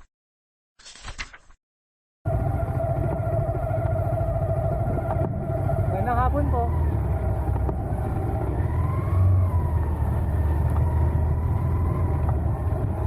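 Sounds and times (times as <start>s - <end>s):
motorcycle engine running: 2.3s - 13.0s.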